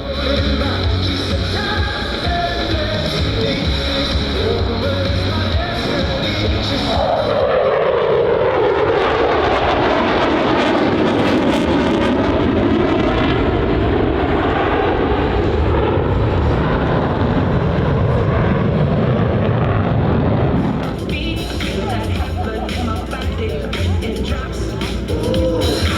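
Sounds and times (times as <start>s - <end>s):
jets passing low: 0.0s - 25.9s
steady jet roar: 0.0s - 25.9s.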